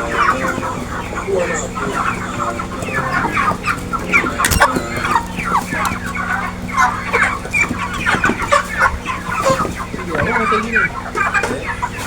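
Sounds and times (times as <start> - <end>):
chickens clucking: 0.0 - 12.0
steady low hum: 0.0 - 12.0.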